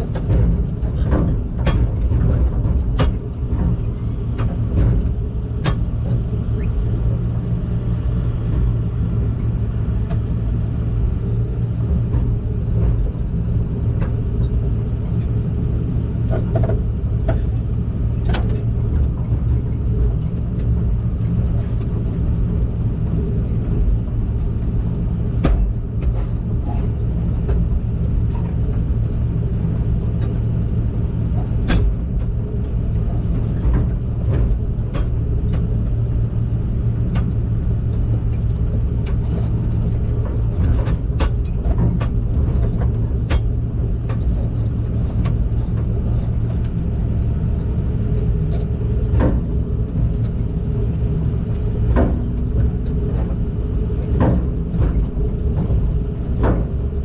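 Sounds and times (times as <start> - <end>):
heavy vehicle engine droning: 0.0 - 57.0.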